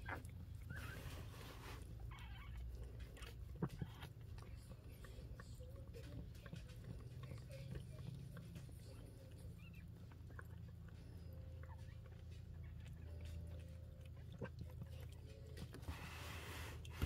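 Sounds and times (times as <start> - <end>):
puppies squeaking: 0.0 - 16.7.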